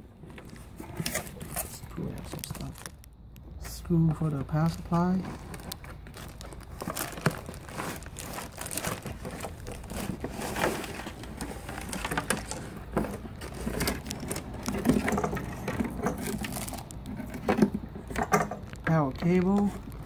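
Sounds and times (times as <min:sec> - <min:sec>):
plastic bag crinkling: 0:00.1 - 0:20.0.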